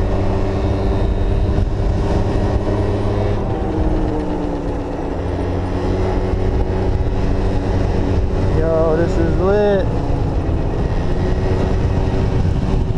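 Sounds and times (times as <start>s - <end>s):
scooter engine running: 0.0s - 12.9s.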